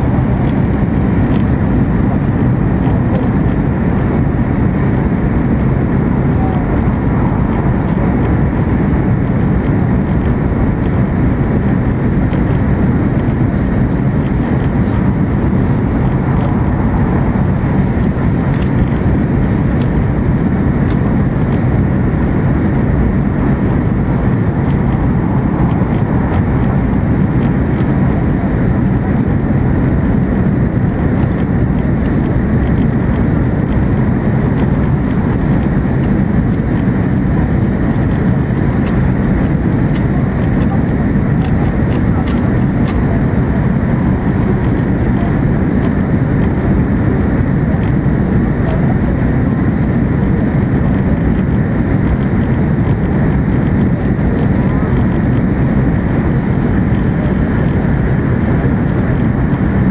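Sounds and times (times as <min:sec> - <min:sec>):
faint hum: 0:00.0 - 0:59.9
train low rumble inside car: 0:00.0 - 0:59.9.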